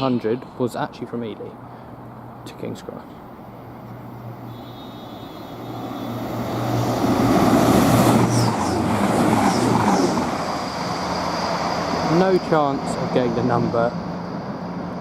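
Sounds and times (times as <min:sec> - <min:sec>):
diesel train passing at speed: 0:00.0 - 0:15.0.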